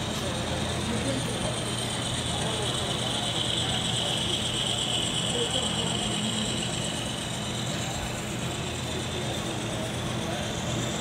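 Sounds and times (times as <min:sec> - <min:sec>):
model train whirring on rails: 0:00.0 - 0:11.0.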